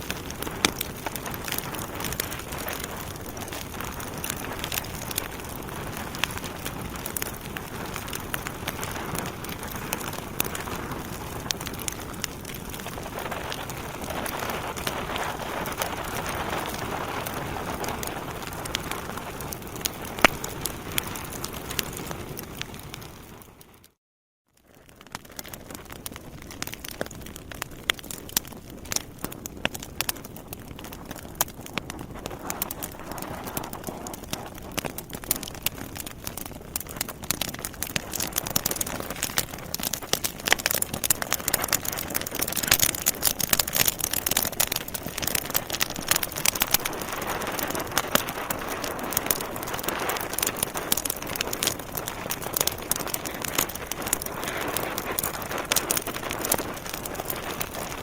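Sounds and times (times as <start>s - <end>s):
soft hiss of burning: 0.0s - 23.8s, 24.6s - 58.0s
log fire crackling and popping: 0.0s - 24.0s, 24.6s - 58.0s.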